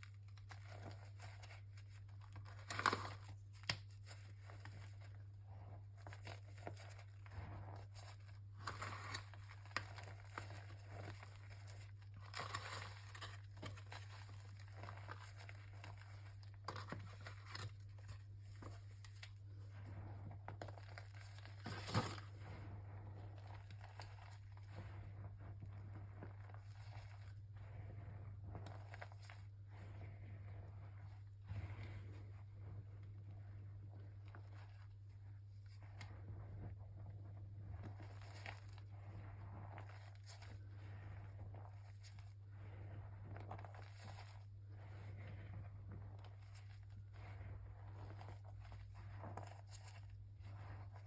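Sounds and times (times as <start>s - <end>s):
chalk crunching and crumbling: 0.0s - 51.0s.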